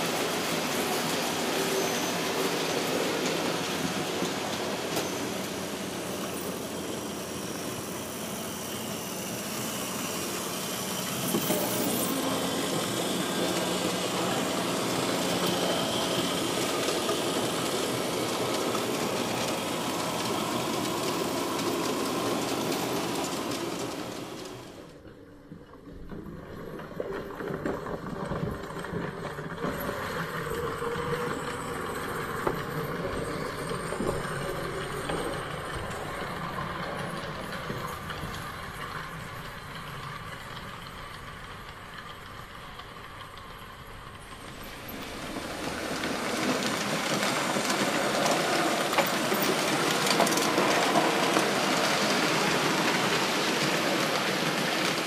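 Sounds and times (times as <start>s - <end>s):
model train wagons rolling on rails: 0.0s - 55.0s.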